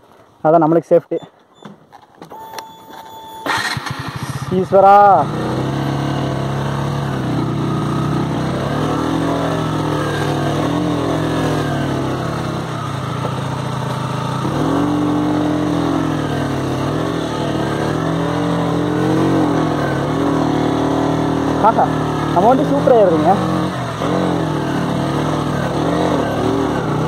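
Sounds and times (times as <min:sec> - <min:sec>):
motorcycle engine revving: 0:03.5 - 0:27.0.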